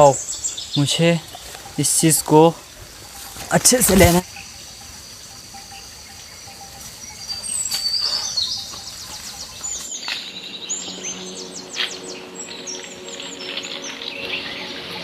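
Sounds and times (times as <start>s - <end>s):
birds chirping and calling: 0.0s - 15.0s
outdoor background noise: 0.0s - 15.0s.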